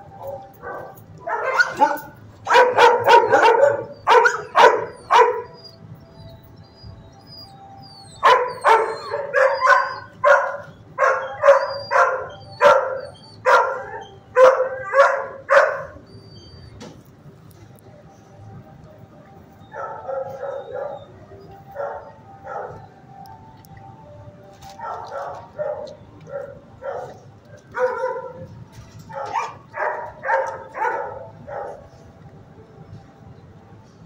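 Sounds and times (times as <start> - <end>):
dogs barking: 0.0 - 16.8, 19.6 - 23.2, 24.6 - 32.2.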